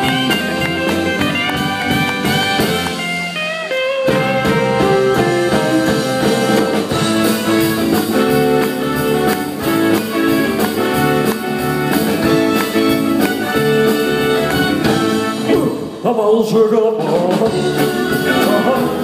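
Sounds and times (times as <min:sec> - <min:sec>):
electric guitar: 0:00.0 - 0:16.0, 0:17.0 - 0:19.0
keyboard: 0:00.0 - 0:16.2
drums: 0:00.0 - 0:19.0.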